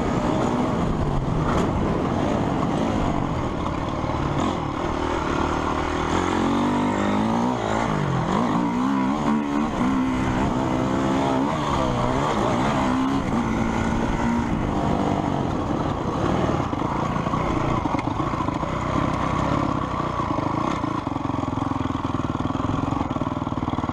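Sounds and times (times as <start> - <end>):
motocross motorcycle engines revving: 0.0 - 23.9.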